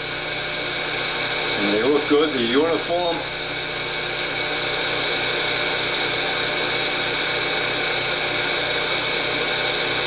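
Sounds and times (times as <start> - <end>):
disc sander motor hum: 0.0 - 10.0.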